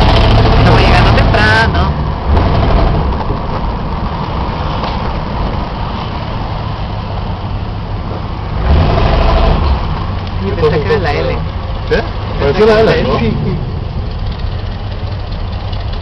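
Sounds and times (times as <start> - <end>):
muscle car engine rumbling: 0.0 - 16.0.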